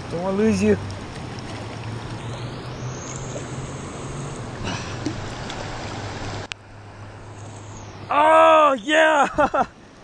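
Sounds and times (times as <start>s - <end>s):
water splash: 0.0s - 8.2s
river water rushing: 0.0s - 10.0s.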